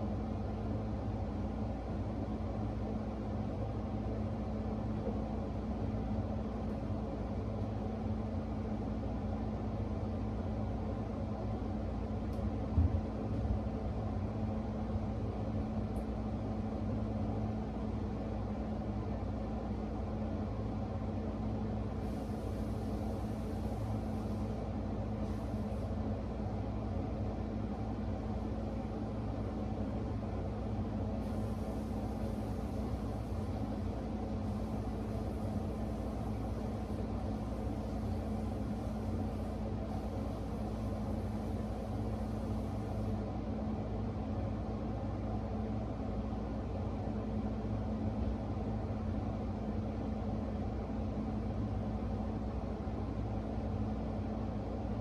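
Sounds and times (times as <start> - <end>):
machine hum and rumble: 0.0 - 55.0.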